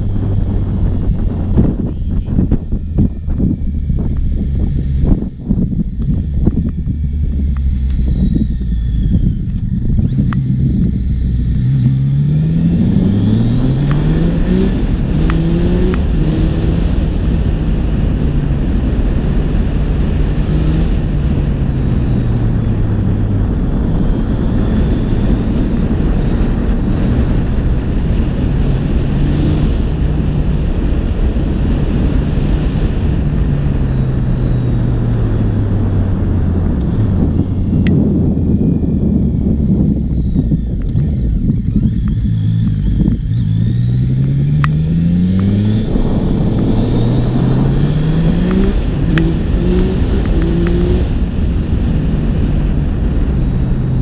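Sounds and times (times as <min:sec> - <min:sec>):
motorcycle engine accelerating: 0:00.0 - 0:54.0
wind on microphone: 0:00.0 - 0:54.0.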